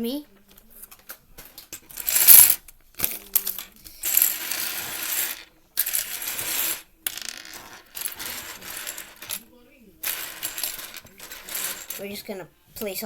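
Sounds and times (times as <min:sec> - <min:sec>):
plastic pieces clattering on table: 0:00.9 - 0:09.4, 0:10.0 - 0:12.2.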